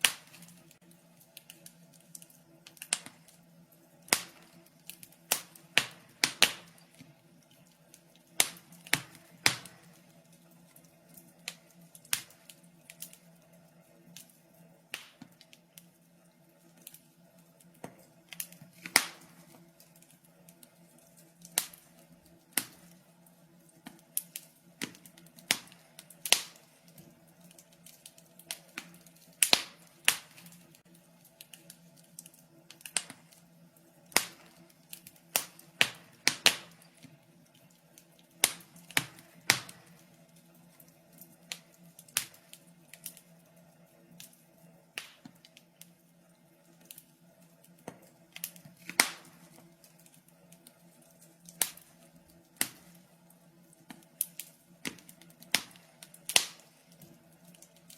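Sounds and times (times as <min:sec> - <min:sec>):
faint steady hum: 0:00.0 - 0:57.9
wood fire crackling: 0:00.0 - 0:57.9.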